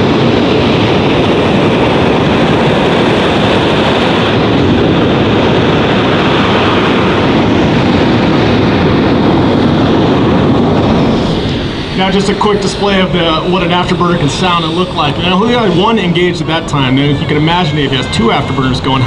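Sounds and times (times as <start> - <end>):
jet roaring past: 0.0 - 19.0.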